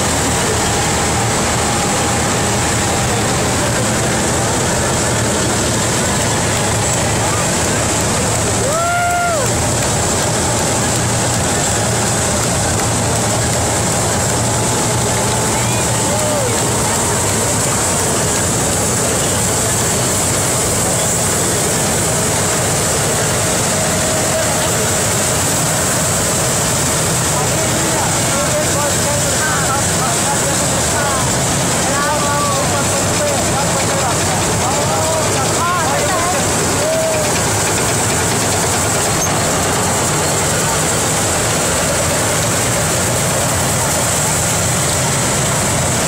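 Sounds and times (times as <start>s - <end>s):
tank engines rumbling: 0.0s - 46.0s.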